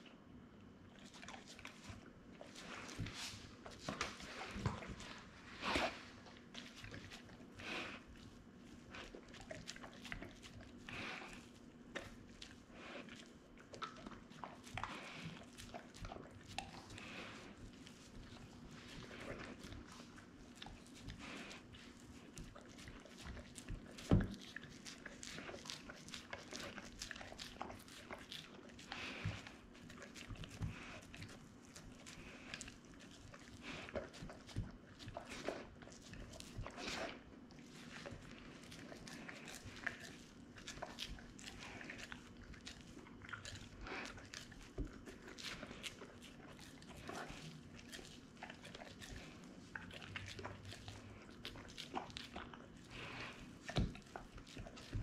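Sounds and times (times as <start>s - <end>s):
dog chewing and licking: 0.8s - 55.0s.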